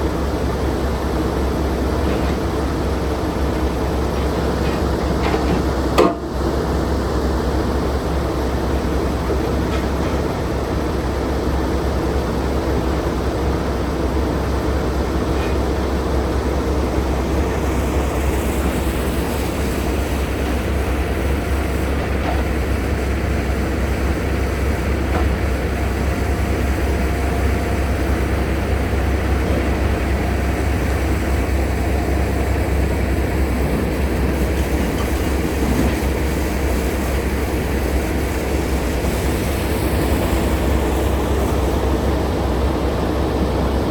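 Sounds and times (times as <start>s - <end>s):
truck diesel engine droning: 0.0s - 43.9s.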